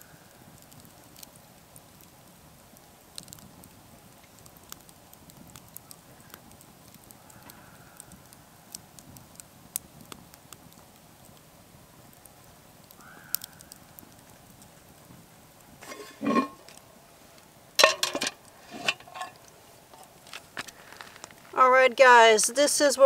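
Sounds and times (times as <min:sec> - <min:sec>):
fire pops and snaps: 0:00.0 - 0:21.6
campfire crackling: 0:00.0 - 0:23.0.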